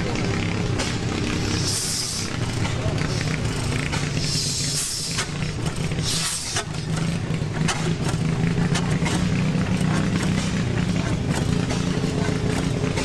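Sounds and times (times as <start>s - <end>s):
stationary gas engine popping: 0.0s - 13.0s.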